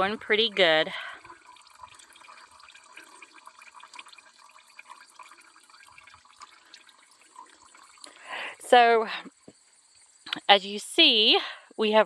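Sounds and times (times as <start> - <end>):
oil trickling into bucket: 0.0 - 10.4.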